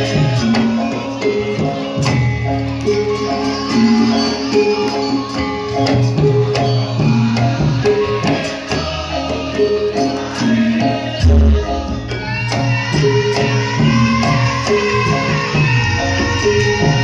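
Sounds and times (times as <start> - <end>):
jingling cymbal-like percussion: 0.0 - 17.0
traditional ensemble music: 0.0 - 17.0.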